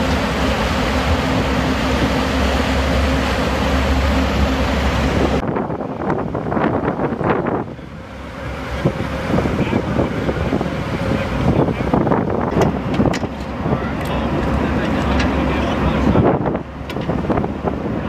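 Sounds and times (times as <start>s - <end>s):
boat engine running: 0.0s - 18.0s
gusty wind on microphone: 0.0s - 18.0s.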